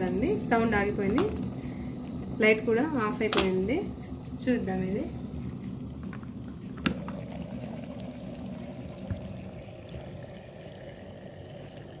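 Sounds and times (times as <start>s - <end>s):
boiled water bubbling in kettle: 0.0s - 12.0s.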